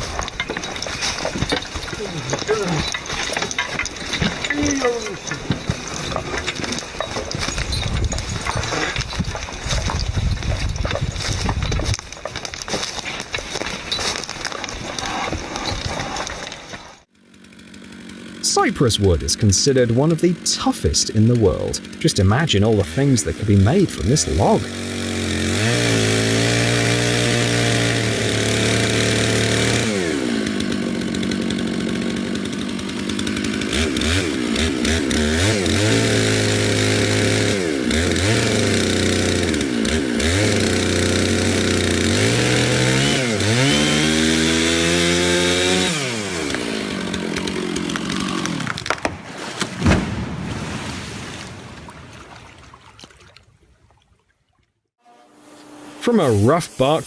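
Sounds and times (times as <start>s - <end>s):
chainsaw cutting log: 0.0s - 50.5s, 55.1s - 57.0s.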